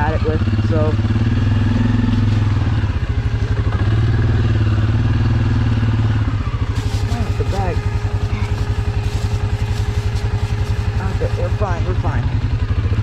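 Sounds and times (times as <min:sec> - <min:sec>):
atv engine chugging: 0:00.0 - 0:13.0.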